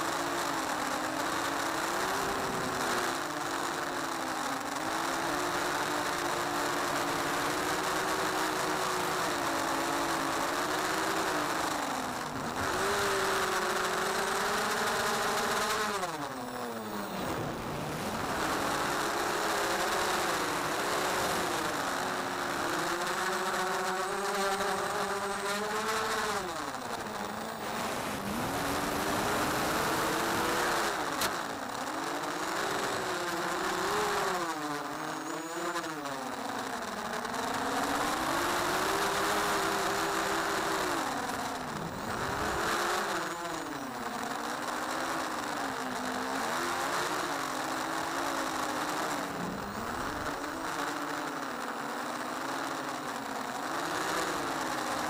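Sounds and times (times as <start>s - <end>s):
quadcopter motors buzzing: 0.0s - 55.0s.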